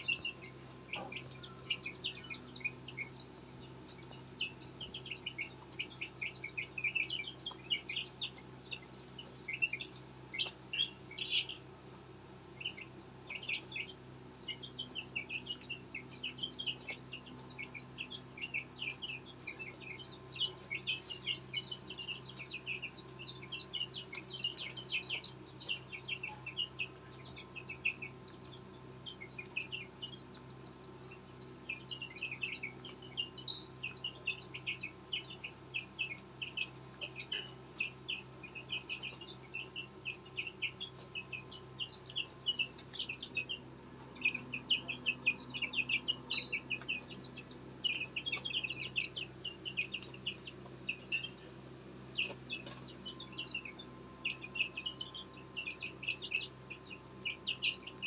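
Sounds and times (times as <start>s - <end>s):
chicks cheeping: 0.0s - 58.0s
faint steady hum: 0.0s - 58.0s.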